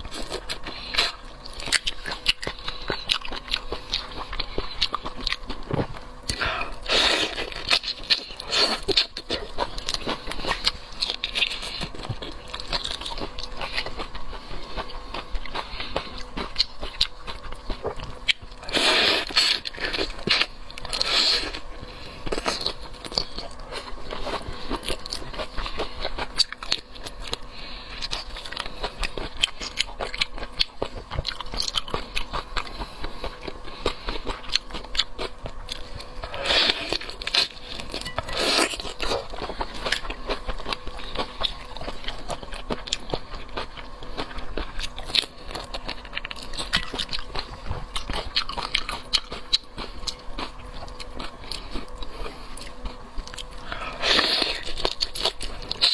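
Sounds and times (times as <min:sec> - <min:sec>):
person crunching and chewing: 0:00.0 - 0:55.9.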